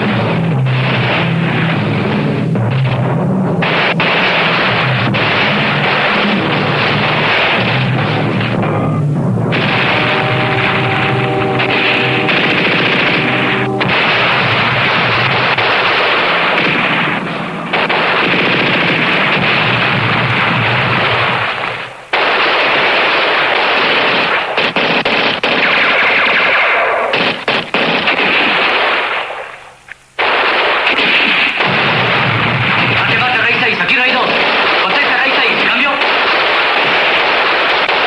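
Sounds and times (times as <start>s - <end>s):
machine-gun fire and gunshots: 0.0s - 29.6s, 30.2s - 38.0s.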